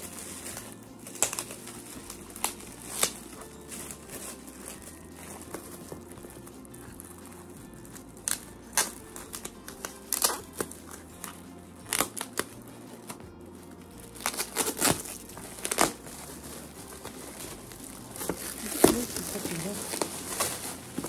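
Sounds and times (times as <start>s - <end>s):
gift wrapping crinkling: 0.0s - 21.0s.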